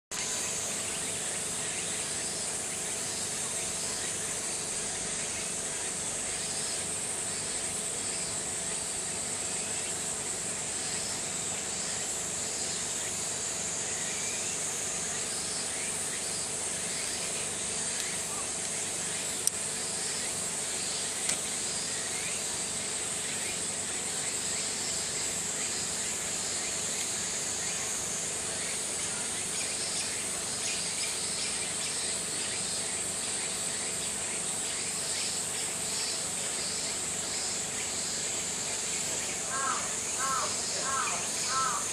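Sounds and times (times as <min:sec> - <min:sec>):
cicadas buzzing: 0:00.1 - 0:41.9
faint steady hum: 0:00.1 - 0:41.9.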